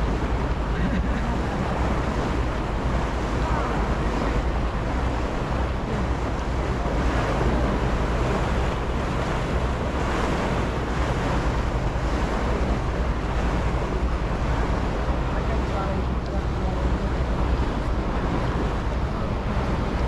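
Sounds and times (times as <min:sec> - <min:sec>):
low engine drone: 0:00.0 - 0:20.0
water rushing past hull: 0:00.0 - 0:20.0
wind buffeting microphone: 0:00.0 - 0:20.0.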